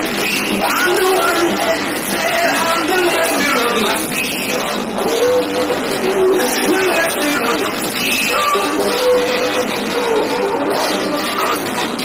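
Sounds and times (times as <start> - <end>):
loud music with sung melody: 0.0 - 12.0.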